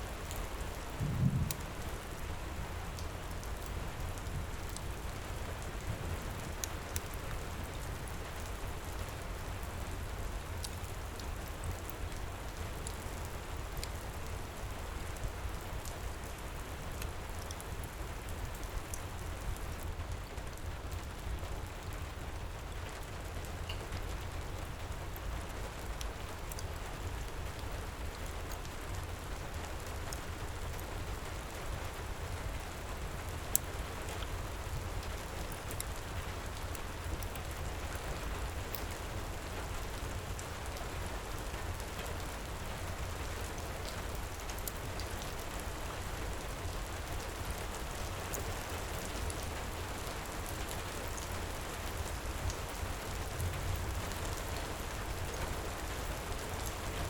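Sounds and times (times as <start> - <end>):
heavy rain: 0.0 - 57.0
wood fire crackling: 0.0 - 57.0.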